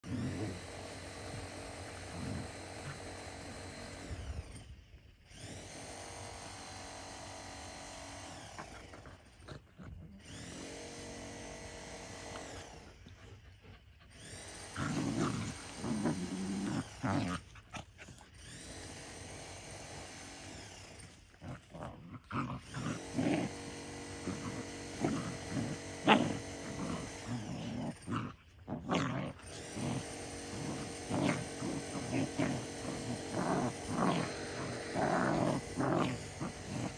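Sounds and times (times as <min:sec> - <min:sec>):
dogs growling and snarling: 0:00.0 - 0:36.9.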